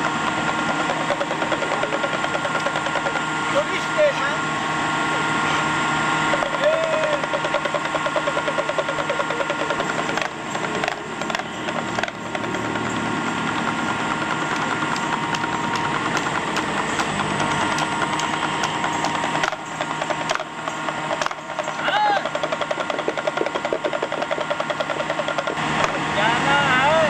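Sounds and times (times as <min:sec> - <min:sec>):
fast sharp rattling clicks: 0:00.0 - 0:03.8, 0:06.3 - 0:26.0
engines running on street: 0:00.0 - 0:27.0.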